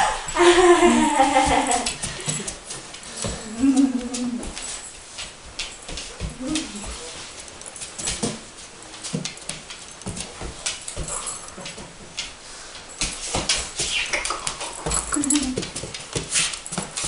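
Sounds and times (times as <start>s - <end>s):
scuffles and knocks: 1.2s - 17.0s.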